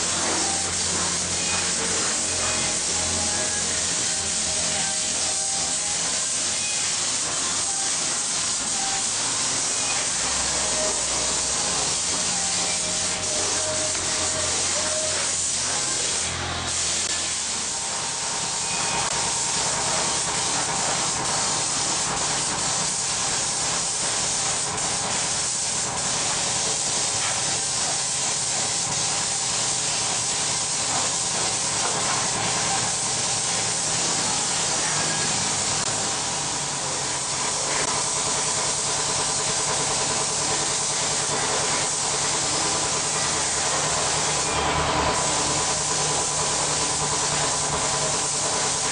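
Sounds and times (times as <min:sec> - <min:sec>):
spray gun hissing: 0:00.0 - 0:48.9.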